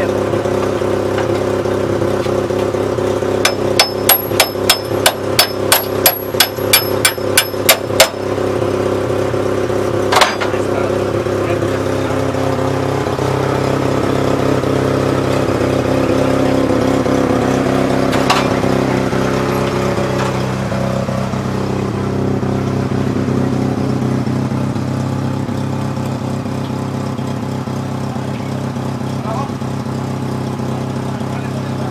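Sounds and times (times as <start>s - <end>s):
large engine running: 0.0s - 31.9s.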